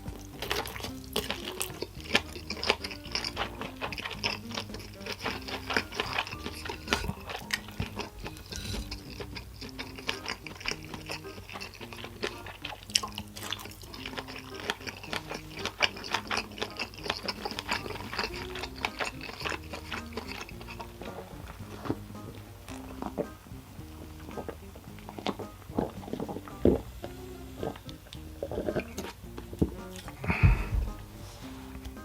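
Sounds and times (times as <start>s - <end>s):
person chewing crunchy food: 0.0s - 32.0s
quiet background music: 0.0s - 32.0s.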